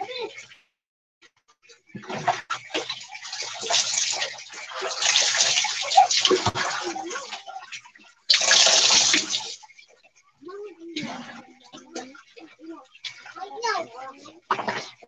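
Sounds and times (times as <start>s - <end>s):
water pouring and splashing: 1.8s - 15.0s.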